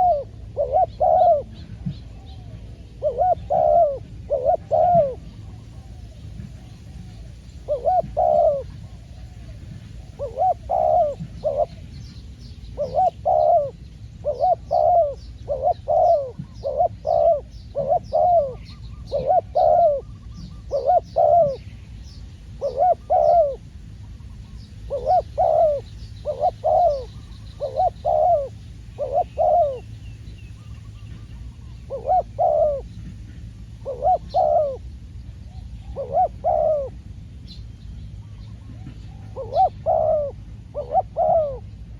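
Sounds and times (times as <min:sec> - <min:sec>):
dove cooing: 0:00.0 - 0:37.2, 0:38.2 - 0:41.9
small birds chirping faintly: 0:00.0 - 0:41.9.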